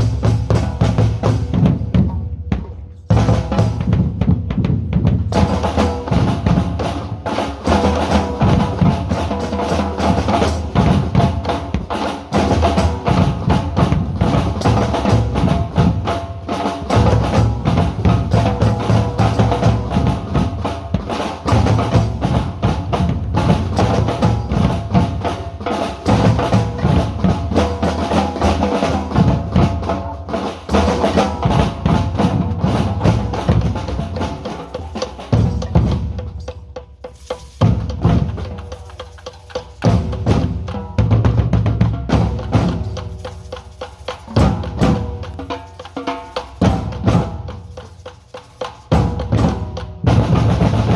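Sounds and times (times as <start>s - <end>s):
group of drummers playing: 0.0s - 50.9s.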